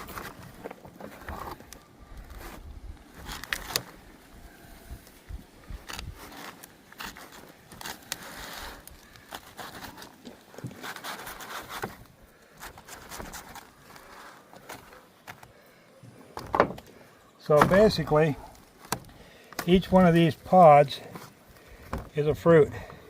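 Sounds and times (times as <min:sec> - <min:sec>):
fruit flesh scraping and crackling: 0:00.0 - 0:15.6, 0:16.3 - 0:23.0.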